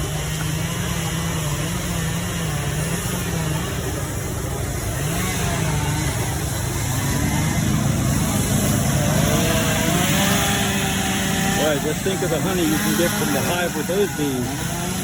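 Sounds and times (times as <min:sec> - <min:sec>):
chainsaws running: 0:00.0 - 0:15.0
people's voices: 0:00.0 - 0:15.0.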